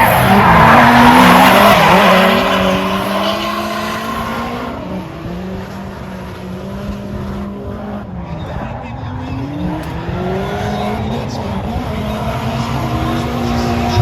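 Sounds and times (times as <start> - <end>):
car engine revving: 0.0 - 14.0
tires squealing: 0.0 - 14.0.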